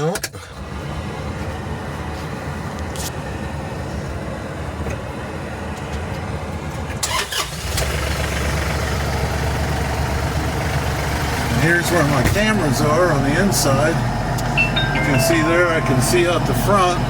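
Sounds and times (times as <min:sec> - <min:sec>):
tractor diesel engine running: 0:00.4 - 0:17.0.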